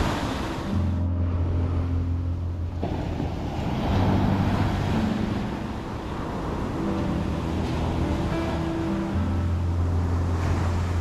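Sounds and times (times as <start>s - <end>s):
small waves washing on sand: 0.0s - 0.9s, 2.7s - 11.0s
music of sustained low notes: 0.0s - 11.0s.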